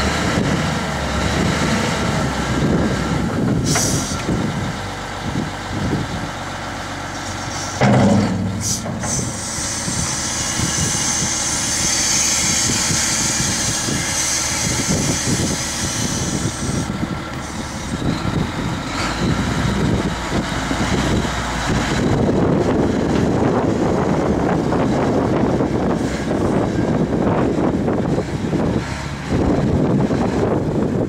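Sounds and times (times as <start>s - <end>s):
wheel loader diesel engine: 0.0s - 31.0s.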